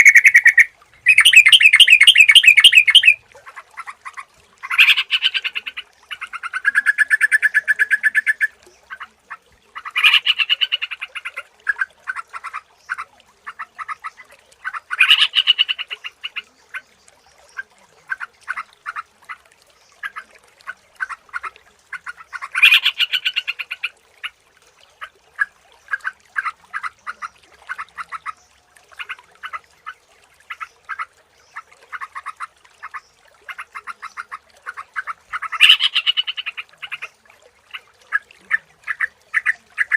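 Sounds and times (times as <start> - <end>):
bulbul singing bubbling phrases: 0.0 - 3.2, 4.0 - 39.9.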